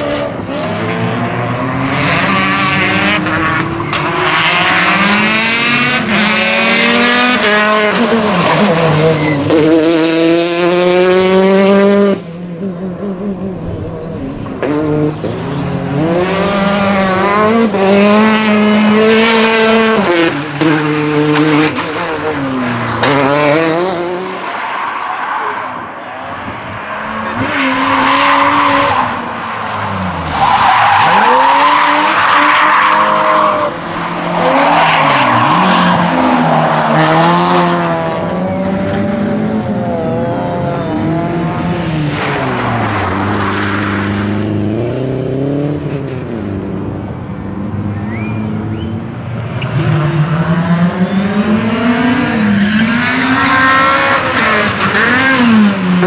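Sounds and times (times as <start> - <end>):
tyres skidding: 0.0 - 11.8, 12.6 - 39.0, 48.0 - 56.0
rally car engine revving: 0.0 - 24.6, 25.2 - 56.0.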